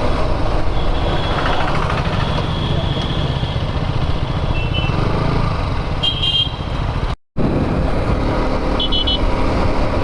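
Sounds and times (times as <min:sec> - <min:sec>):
motorcycle engine and road rumble: 0:00.0 - 0:10.0.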